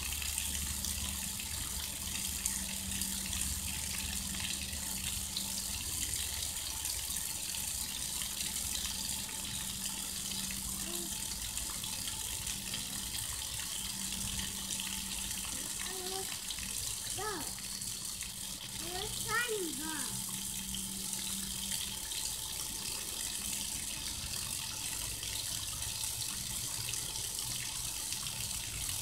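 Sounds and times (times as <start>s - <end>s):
water gushing from spigot: 0.0s - 29.0s.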